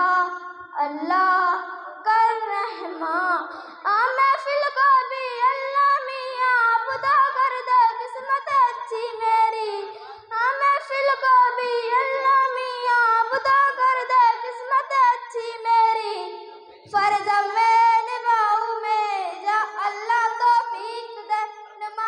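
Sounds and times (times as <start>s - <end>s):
girl singing devotional song: 0.0s - 22.0s.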